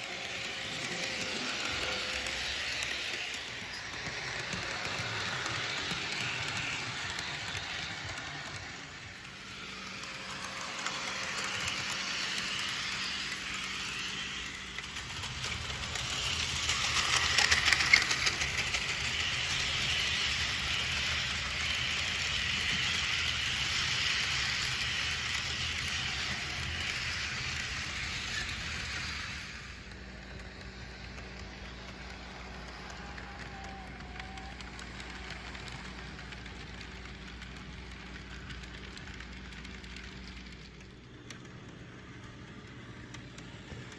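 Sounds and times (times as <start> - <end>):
model train rolling: 0.0 - 43.9.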